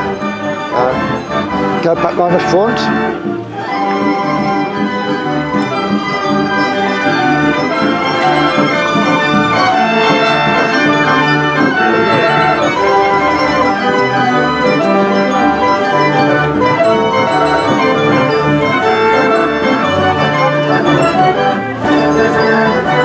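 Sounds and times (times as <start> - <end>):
organ music: 0.0 - 23.0.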